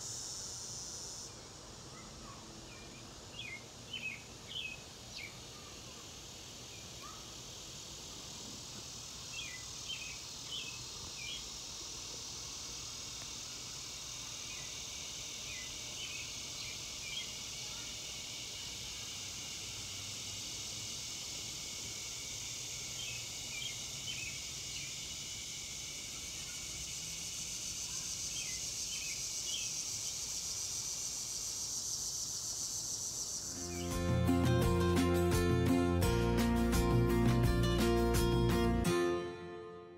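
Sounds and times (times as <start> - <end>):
shrill insect chorus: 0.0 - 38.9.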